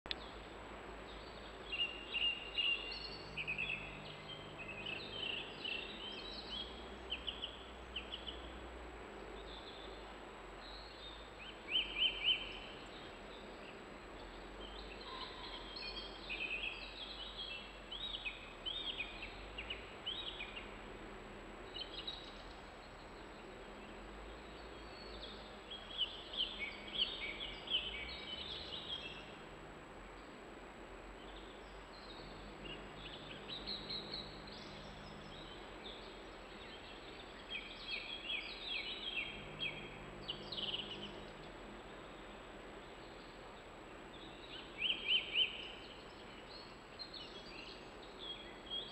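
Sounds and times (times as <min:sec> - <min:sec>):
steady background hiss: 0:00.1 - 0:48.9
robin singing: 0:01.1 - 0:08.6, 0:09.3 - 0:20.8, 0:21.6 - 0:29.5, 0:31.2 - 0:48.9.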